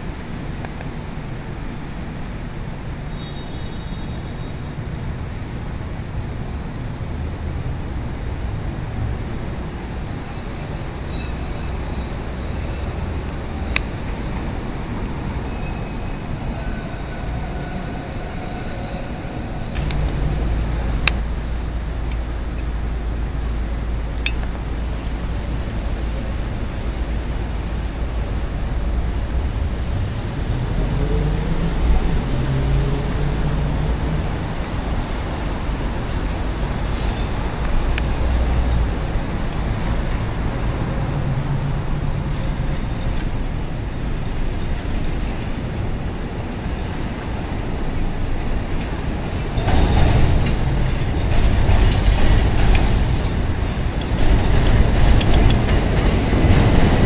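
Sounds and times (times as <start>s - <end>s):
city traffic noise: 0.0s - 57.0s
elevated train wheels on rails: 4.6s - 57.0s.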